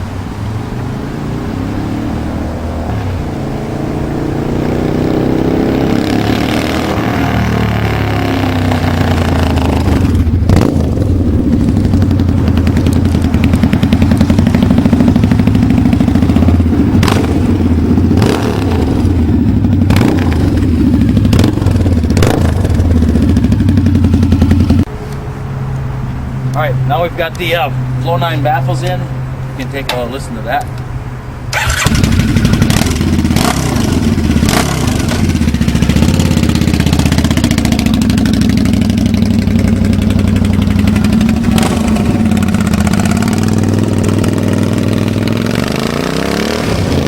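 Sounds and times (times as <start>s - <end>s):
motorcycle engine running: 1.6s - 24.9s, 31.5s - 47.0s
sharp exhaust cracks: 2.8s - 25.9s, 31.5s - 47.0s.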